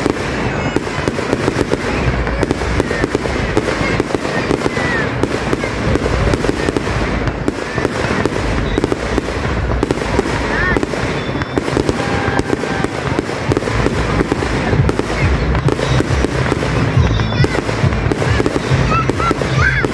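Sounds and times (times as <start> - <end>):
fireworks popping and crackling: 0.0 - 19.9.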